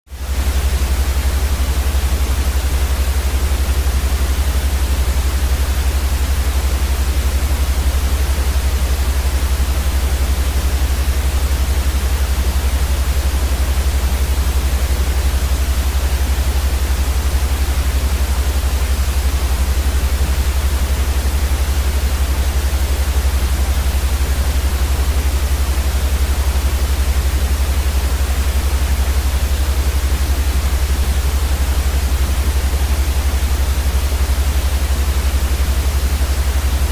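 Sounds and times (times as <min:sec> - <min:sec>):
white noise hiss: 0:00.1 - 0:36.9.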